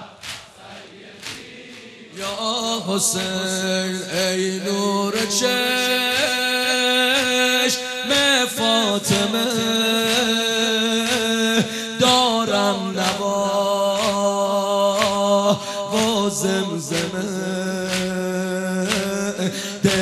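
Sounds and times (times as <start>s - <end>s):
loud lament chanting: 0.0s - 20.0s
rhythmic chest-beating: 0.0s - 20.0s.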